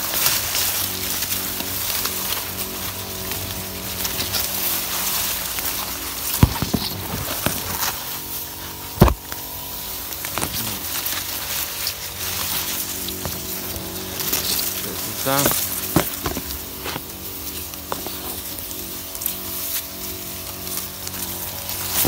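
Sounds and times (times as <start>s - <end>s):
leaves rustling against phone: 0.0s - 22.0s
small crackles: 0.0s - 22.0s
steady hum: 0.0s - 22.0s.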